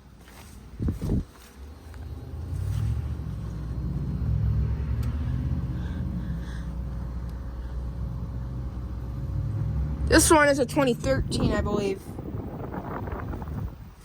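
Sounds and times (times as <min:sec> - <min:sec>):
air conditioner humming: 0:00.0 - 0:14.0
faint steady whine: 0:00.0 - 0:14.0.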